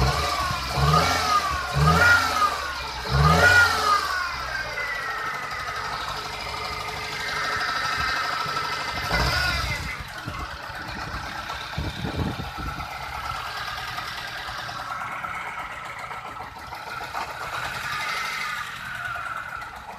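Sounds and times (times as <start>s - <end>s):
car engine misfiring: 0.0s - 19.9s.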